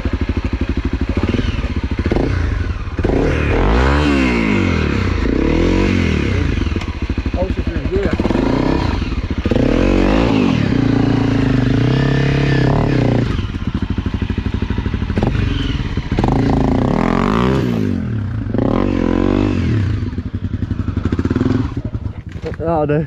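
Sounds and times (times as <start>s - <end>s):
trail bike engine revving: 0.0s - 23.0s.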